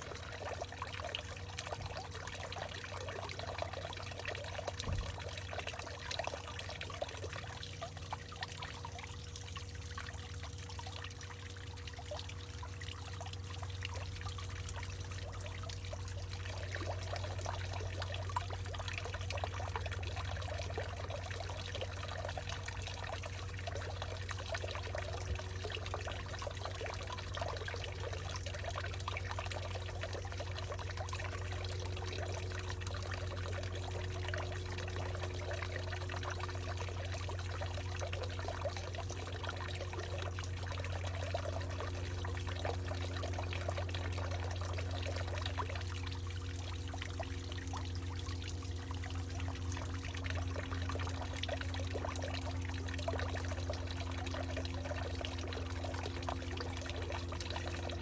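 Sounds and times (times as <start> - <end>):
constant low hum: 0.0 - 58.0
water pouring and trickling: 0.0 - 58.0.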